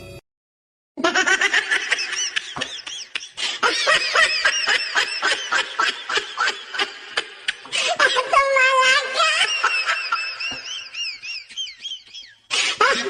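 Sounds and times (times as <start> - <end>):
high-pitched rapid laughter: 1.0 - 13.0.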